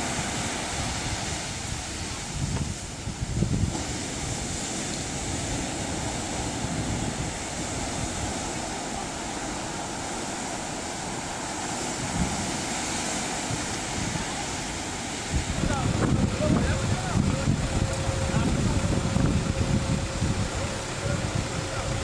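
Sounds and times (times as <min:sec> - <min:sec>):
ocean surf breaking: 0:00.0 - 0:22.0
wind rumbling on microphone: 0:00.0 - 0:22.0.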